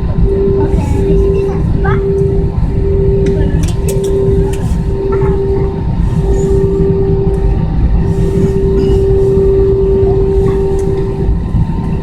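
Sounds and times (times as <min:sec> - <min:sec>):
mid-pitched hum: 0:00.0 - 0:12.0
vehicle interior rumble: 0:00.0 - 0:12.0.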